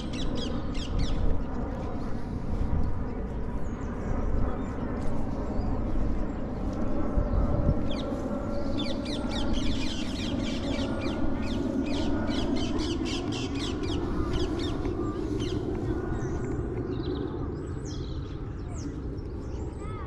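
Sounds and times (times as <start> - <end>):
flock of birds chirping: 0.0 - 20.0
steady low rumble: 0.0 - 20.0.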